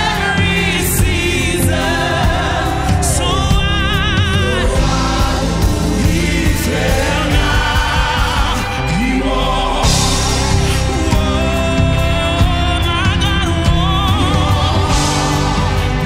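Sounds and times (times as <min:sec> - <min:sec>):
choir singing in harmony: 0:00.0 - 0:16.0
drums: 0:00.0 - 0:16.0
electric bass: 0:00.0 - 0:16.0.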